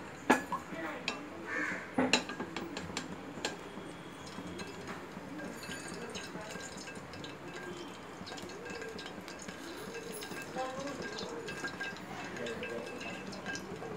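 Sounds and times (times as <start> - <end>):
metal utensil clinking on pot: 0.3 - 1.3, 2.0 - 13.9.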